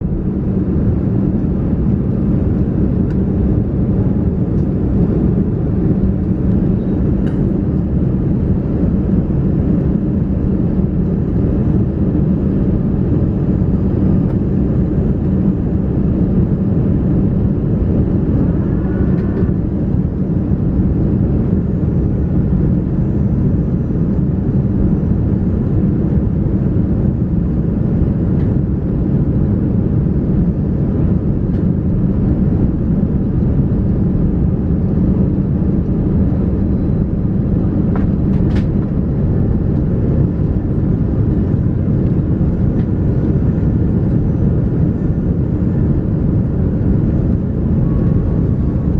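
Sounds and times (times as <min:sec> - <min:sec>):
airliner cabin engine drone: 0:00.0 - 0:48.9.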